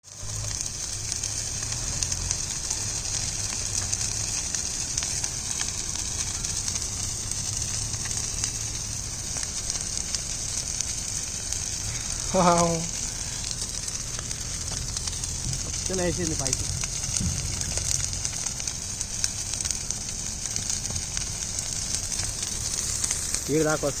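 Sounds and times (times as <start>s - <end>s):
brush fire hissing and crackling: 0.0s - 24.0s.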